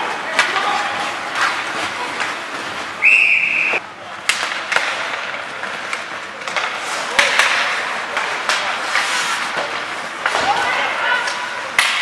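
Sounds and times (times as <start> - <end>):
sticks and puck clacking: 0.0 - 12.0.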